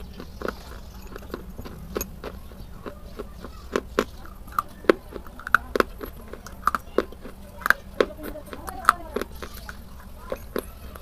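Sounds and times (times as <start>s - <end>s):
chalk being chewed: 0.0s - 11.0s
steady low hum: 0.0s - 11.0s.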